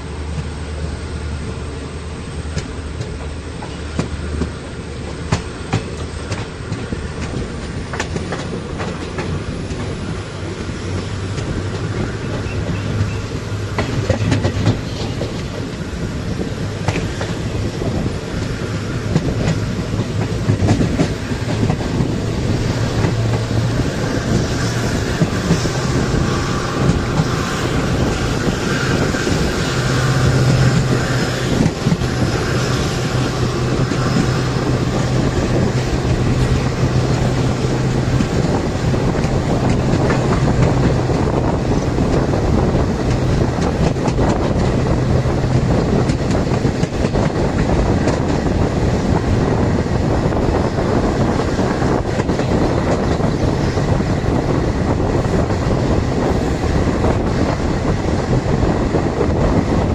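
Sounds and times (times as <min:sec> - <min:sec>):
train rumbling on rails: 0:00.0 - 0:59.9
wheels clicking over rail joints: 0:02.4 - 0:59.9.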